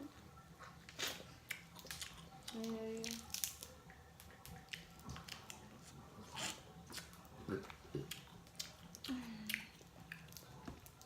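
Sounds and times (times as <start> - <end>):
chewing and crunching: 0.6 - 11.0.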